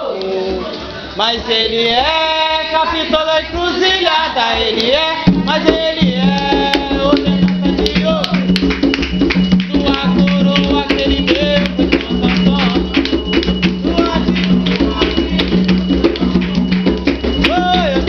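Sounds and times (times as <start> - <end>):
hand drums playing: 2.0 - 18.0.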